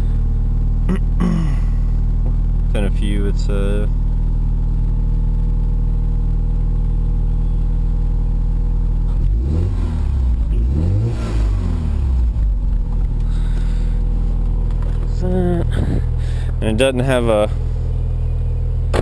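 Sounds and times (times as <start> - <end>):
rotary engine idling and revving: 0.0 - 19.0.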